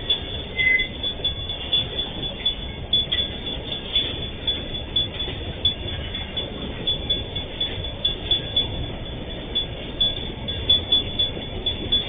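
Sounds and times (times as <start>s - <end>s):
high wheel squeaks: 0.0s - 12.0s
train wheels rumbling on rail: 0.0s - 12.0s
wagons clanking: 0.0s - 12.0s.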